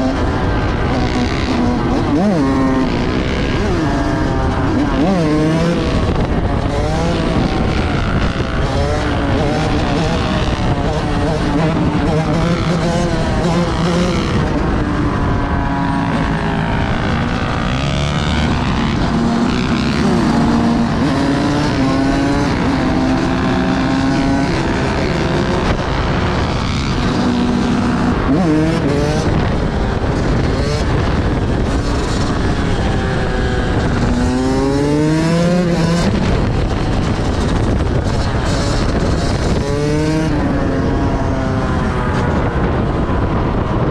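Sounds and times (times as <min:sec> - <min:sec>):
road and wind noise: 0:00.0 - 0:43.9
vehicle engines revving: 0:00.0 - 0:43.9.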